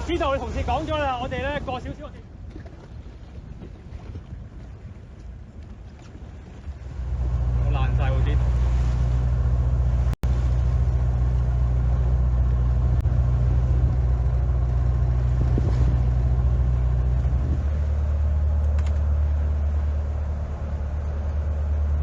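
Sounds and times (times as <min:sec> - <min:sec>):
engine rumble: 0:00.0 - 0:22.0.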